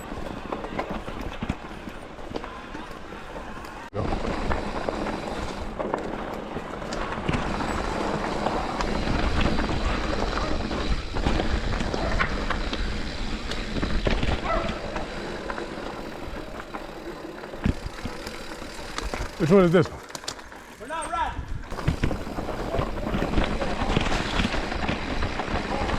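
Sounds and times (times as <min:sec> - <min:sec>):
bike clicks and knocks: 0:00.0 - 0:25.9
bike tyres rushing over dirt: 0:00.0 - 0:25.9.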